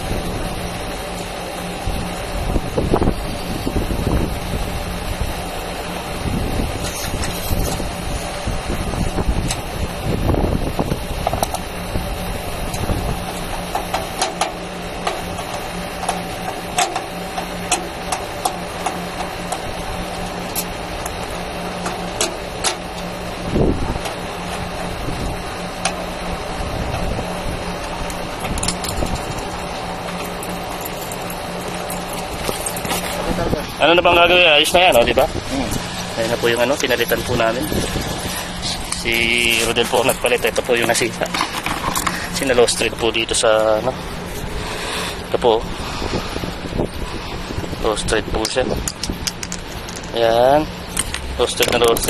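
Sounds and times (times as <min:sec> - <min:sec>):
low rumbles: 0:00.0 - 0:52.0
steady machine hum: 0:00.0 - 0:52.0.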